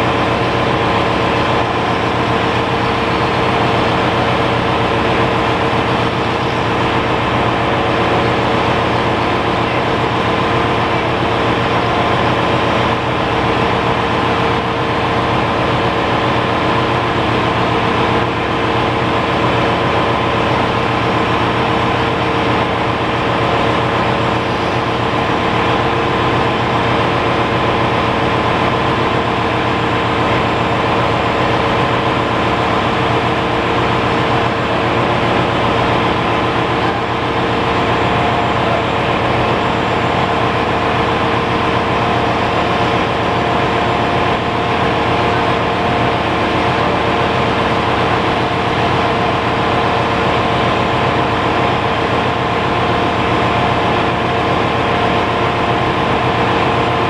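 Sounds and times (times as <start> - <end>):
engine room machinery hum: 0.0 - 57.0.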